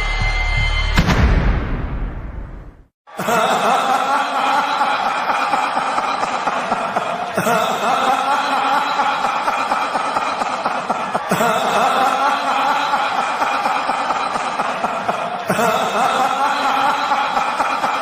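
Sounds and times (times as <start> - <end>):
distorted sinister chuckling laugh: 3.1 - 18.0.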